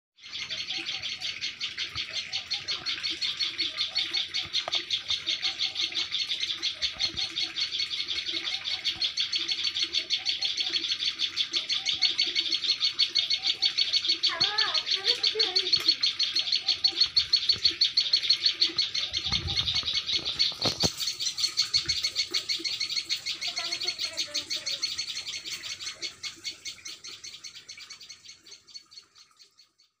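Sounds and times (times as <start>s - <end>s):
small birds chirping: 0.2s - 30.0s
gliding bird call: 0.3s - 28.7s.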